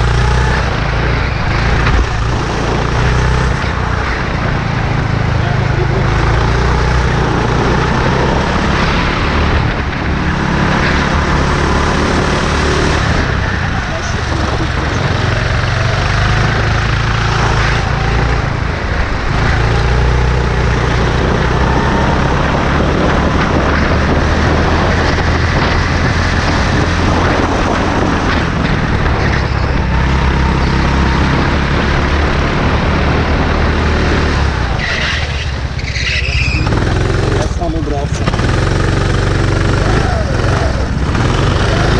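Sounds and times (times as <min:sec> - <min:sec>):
kart engine running hard: 0:00.0 - 0:41.9
rush of wind noise: 0:00.0 - 0:41.9.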